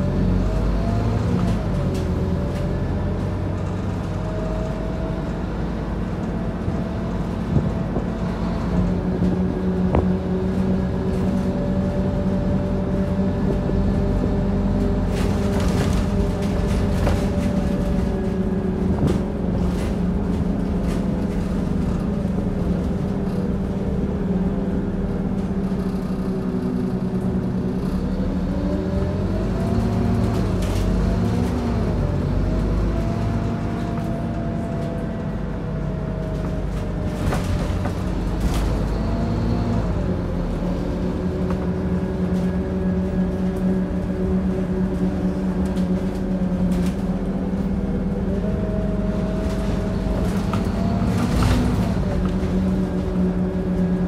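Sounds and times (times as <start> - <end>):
bus engine hum: 0.0 - 54.0
bus body knocks and rattles: 0.8 - 24.5, 29.4 - 54.0.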